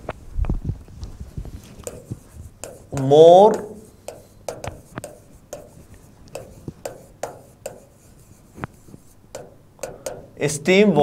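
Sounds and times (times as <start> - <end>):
chalk tapping and scraping: 1.5 - 10.7.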